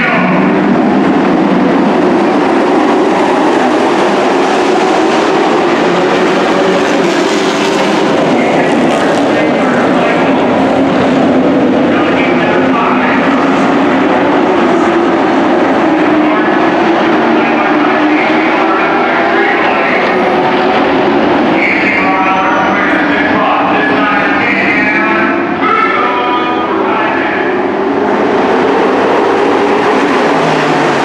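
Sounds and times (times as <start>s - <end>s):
race truck engines droning: 0.0s - 31.0s.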